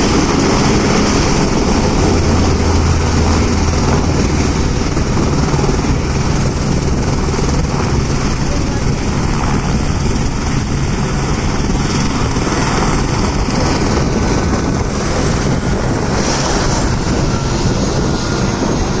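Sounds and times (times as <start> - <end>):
helicopter rotor and engine: 0.0 - 19.0.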